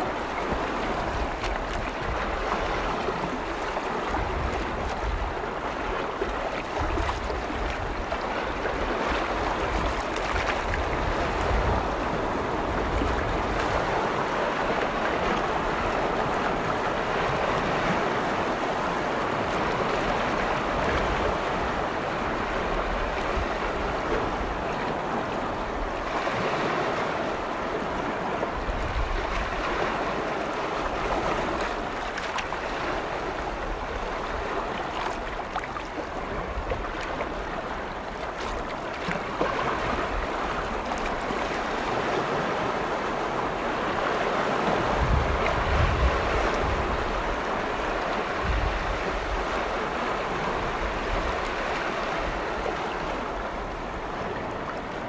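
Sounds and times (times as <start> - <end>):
wind buffeting microphone: 0.0 - 35.5, 39.8 - 55.0
lake waves washing on shore: 0.0 - 55.0.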